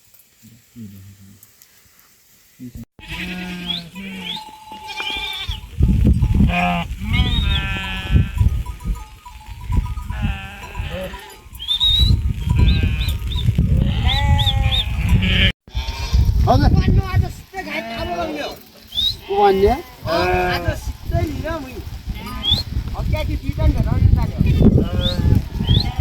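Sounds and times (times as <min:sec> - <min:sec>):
goats or sheep bleating: 0:03.0 - 0:11.7, 0:12.3 - 0:26.0.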